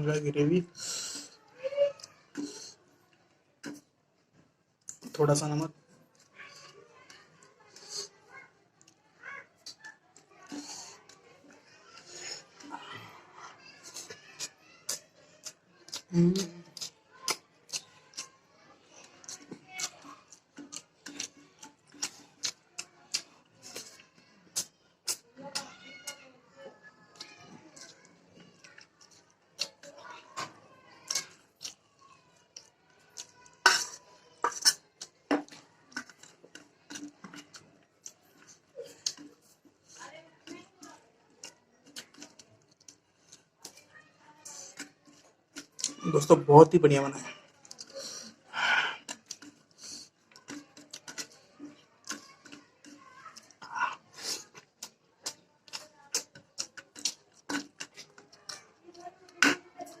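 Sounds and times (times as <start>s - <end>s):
wet chewing and mouth smacks: 3.6s - 5.2s, 6.1s - 13.2s, 13.8s - 26.2s, 27.2s - 43.8s, 44.4s - 46.0s, 47.6s - 60.0s.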